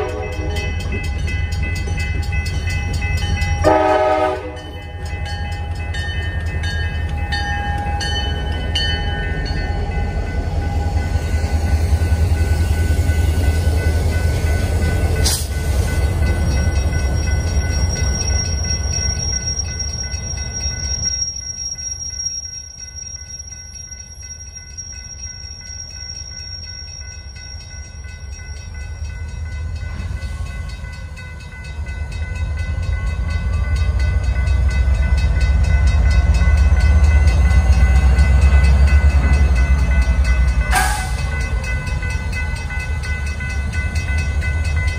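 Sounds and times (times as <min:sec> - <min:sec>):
diesel locomotive engine rumble: 0:00.0 - 0:44.9.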